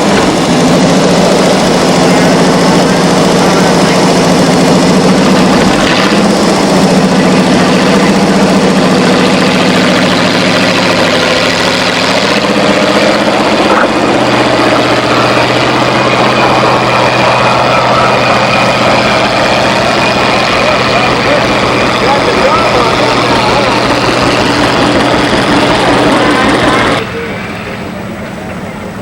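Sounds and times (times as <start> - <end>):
tractor engine running loud: 0.0 - 29.0.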